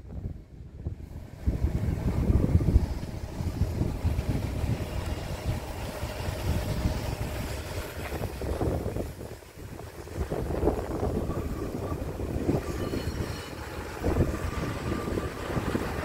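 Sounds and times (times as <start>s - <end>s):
engine rumbling unevenly: 0.0s - 12.9s, 13.5s - 16.0s.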